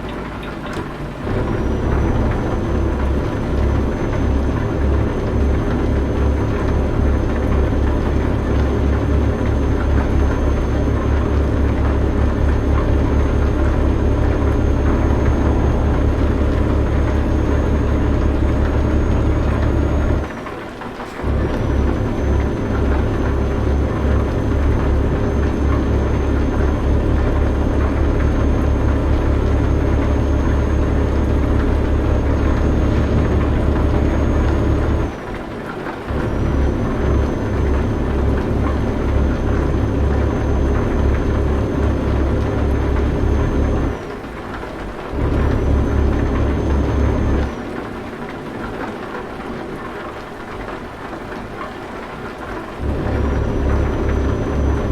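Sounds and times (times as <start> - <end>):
truck engine and road noise: 0.0 - 54.9.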